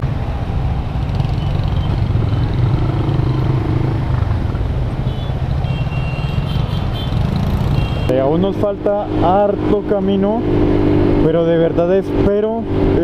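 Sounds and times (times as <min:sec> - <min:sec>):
traffic engines: 0:00.0 - 0:13.0.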